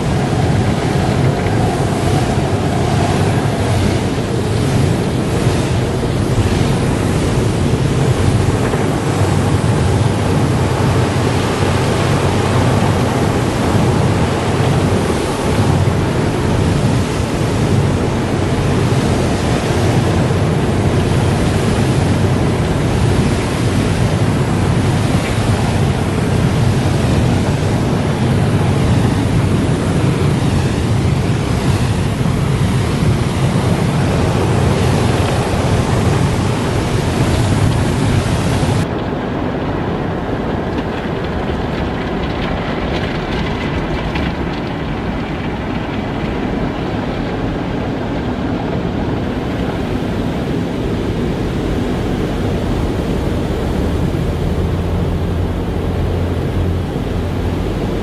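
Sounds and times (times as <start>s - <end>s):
spraying water in car wash: 0.0s - 58.0s.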